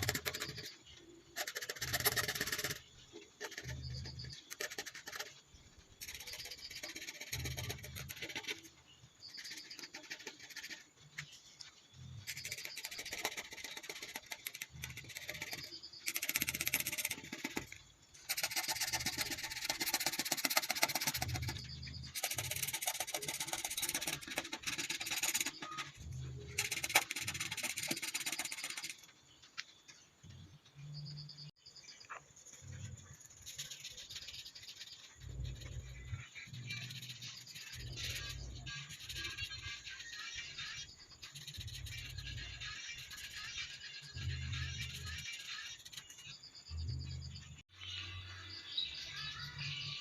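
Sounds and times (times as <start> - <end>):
drawing tool scratching on paper: 0.0 - 0.8, 1.4 - 5.4, 6.0 - 11.3, 12.2 - 29.1, 33.2 - 46.4.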